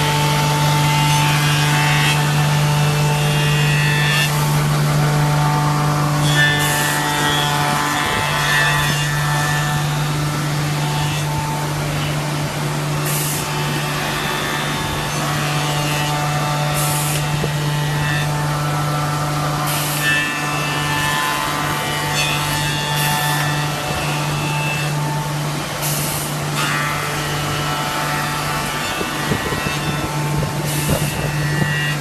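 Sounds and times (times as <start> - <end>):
cutters milling wood: 0.0 - 32.0
shaper motor hum and whine: 0.0 - 32.0.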